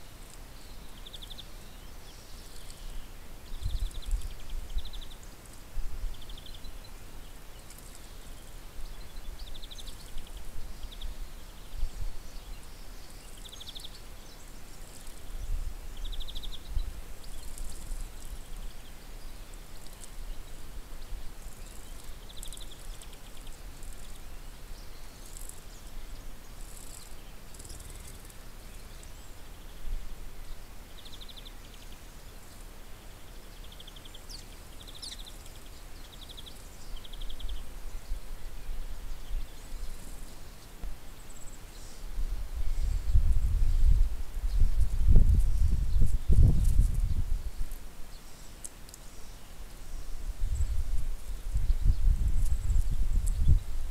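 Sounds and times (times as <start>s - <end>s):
small birds buzzy chirps: 0.0s - 53.9s.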